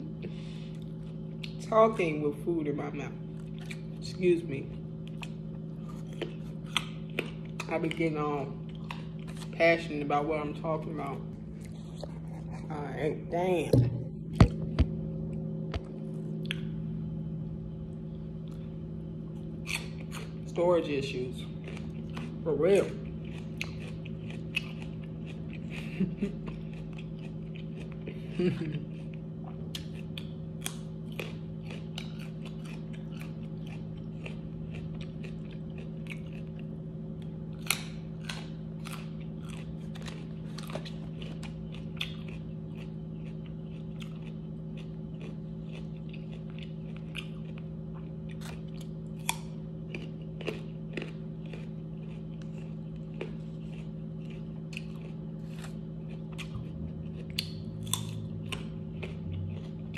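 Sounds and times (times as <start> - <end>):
steady low hum: 0.0 - 59.9
crunchy food chewing: 3.2 - 12.9, 17.8 - 59.9.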